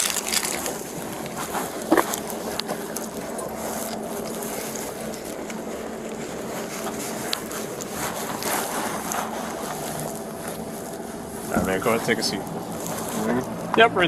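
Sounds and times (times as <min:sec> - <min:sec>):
idling vehicle hum: 0:00.0 - 0:14.0
clothing rubbing on microphone: 0:00.6 - 0:13.7.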